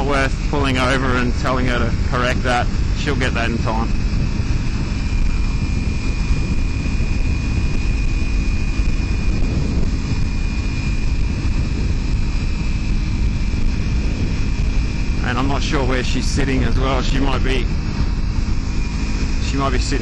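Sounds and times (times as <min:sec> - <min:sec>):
motorcycle engine cruising: 0:00.0 - 0:20.0
steady high whine: 0:00.0 - 0:20.0
wind noise on microphone: 0:00.0 - 0:20.0.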